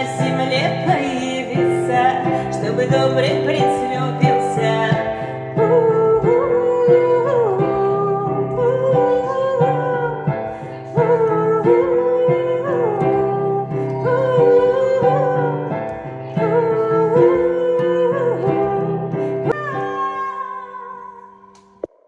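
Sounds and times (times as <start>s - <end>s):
person singing: 0.0s - 22.0s.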